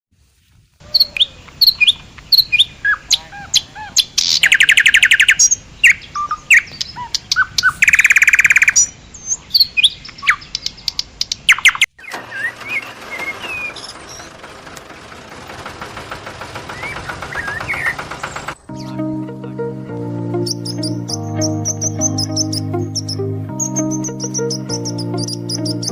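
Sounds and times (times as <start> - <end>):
chorus of bird calls: 0.8 - 14.9, 15.7 - 19.1, 20.4 - 25.9
songbirds chirping: 0.8 - 25.9
loud rapid bird trill: 0.9 - 14.4, 16.4 - 19.0, 20.4 - 25.9.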